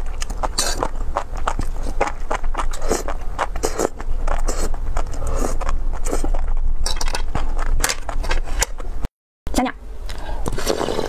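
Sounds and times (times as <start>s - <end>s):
slurping and chewing food: 0.0s - 8.8s, 10.4s - 11.0s
steady low hum: 0.0s - 11.0s.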